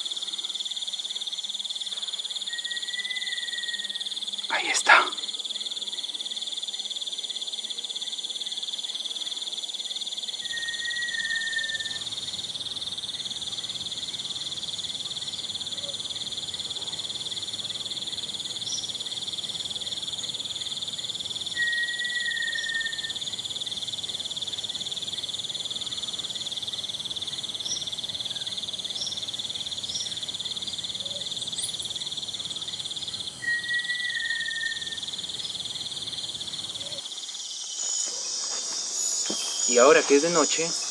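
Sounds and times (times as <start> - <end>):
insects and frogs droning: 0.0 - 40.9.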